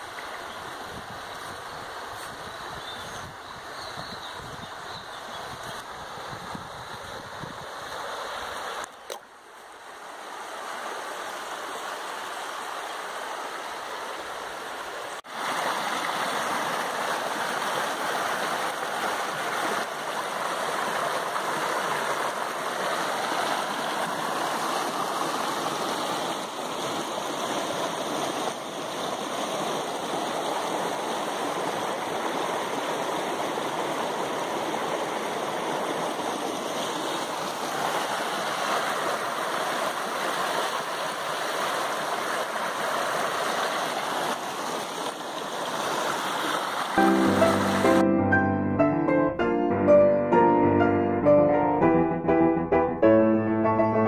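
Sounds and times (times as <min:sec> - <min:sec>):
stream rushing over stones: 0:00.0 - 0:48.0.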